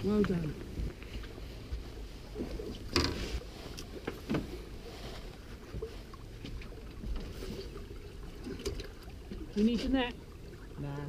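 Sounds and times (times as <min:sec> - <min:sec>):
wind and water against hull: 0:00.0 - 0:11.0.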